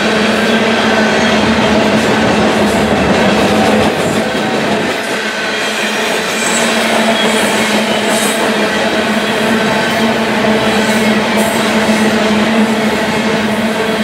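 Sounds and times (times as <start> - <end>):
train wheels rushing on rails: 0.0 - 14.0.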